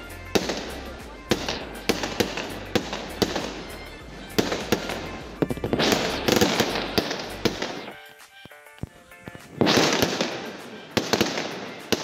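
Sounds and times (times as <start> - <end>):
fireworks bangs: 0.0 - 12.0
fireworks crackling hiss: 0.0 - 12.0.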